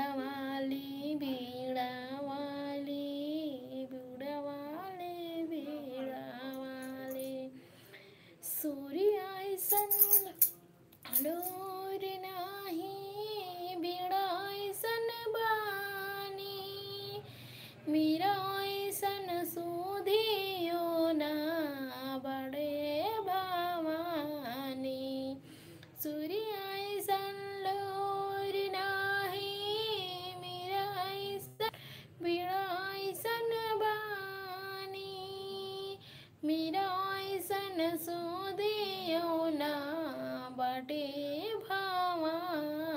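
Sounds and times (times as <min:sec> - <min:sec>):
woman singing unaccompanied: 0:00.0 - 0:07.6, 0:08.4 - 0:25.4, 0:26.0 - 0:42.9.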